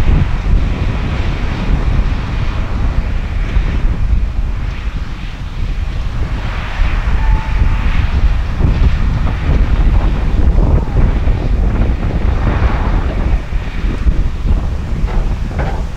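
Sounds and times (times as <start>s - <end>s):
tractor running: 0.0s - 15.9s
wind buffeting microphone: 0.0s - 15.9s.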